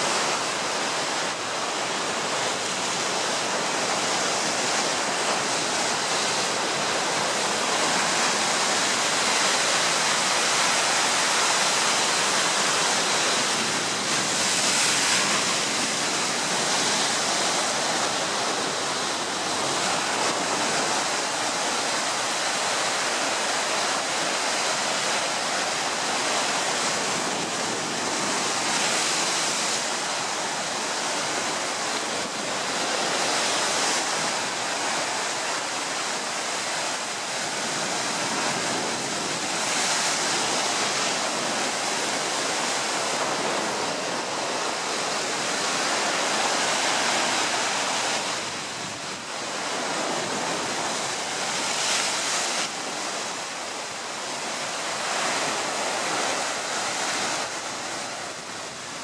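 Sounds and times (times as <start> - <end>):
ocean surf crashing on rocks: 0.0 - 59.0.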